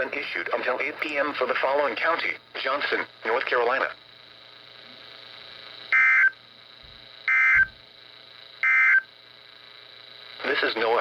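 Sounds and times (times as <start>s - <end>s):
receiver hiss and hum: 0.0s - 11.0s.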